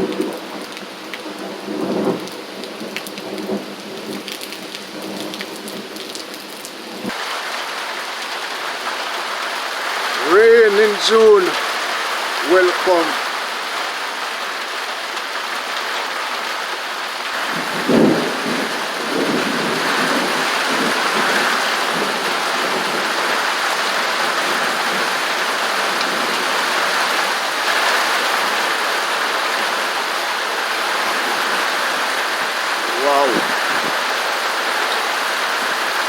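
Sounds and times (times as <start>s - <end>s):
rain on a metal roof: 0.0s - 36.0s.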